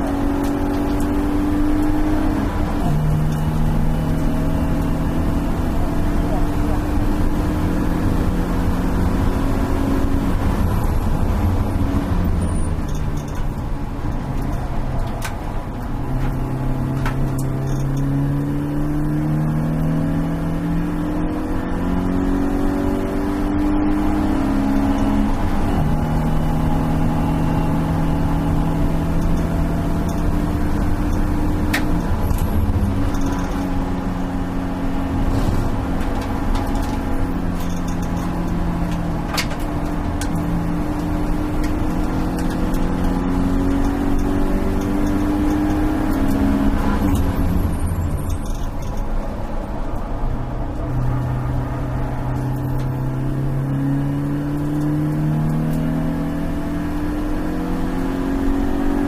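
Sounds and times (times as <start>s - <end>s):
car engine accelerating: 0.0s - 59.0s
wind and road noise: 0.0s - 59.0s.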